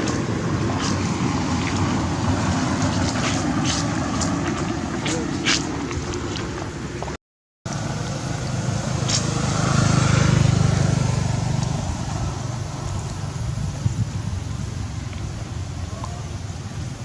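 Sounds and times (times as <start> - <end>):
vehicle engine passing by: 0.0 - 7.1, 7.7 - 16.7.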